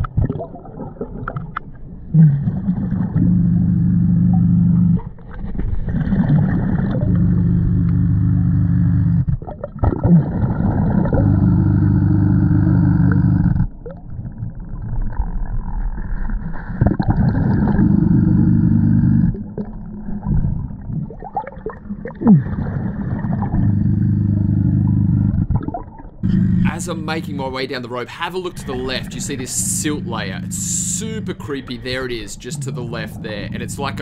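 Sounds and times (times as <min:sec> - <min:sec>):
exhaled bubbles underwater: 0:00.0 - 0:34.0
quiet gurgling: 0:00.0 - 0:34.0.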